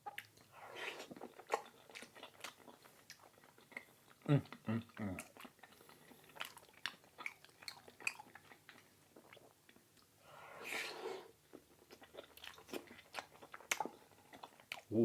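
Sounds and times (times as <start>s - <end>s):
mouth chewing with wet clicks: 0.0s - 10.2s, 11.5s - 14.9s.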